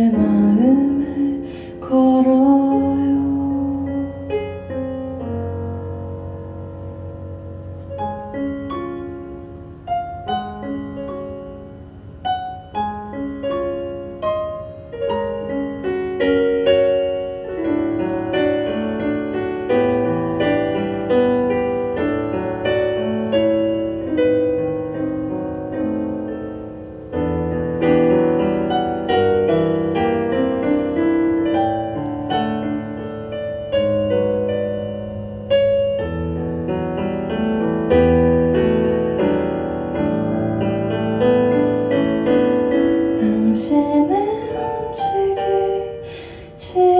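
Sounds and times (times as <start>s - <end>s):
piano notes and chords: 0.0s - 46.9s.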